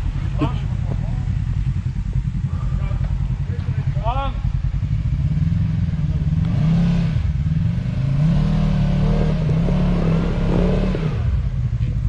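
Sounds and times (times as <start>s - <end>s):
utv engine revving: 0.0s - 12.0s.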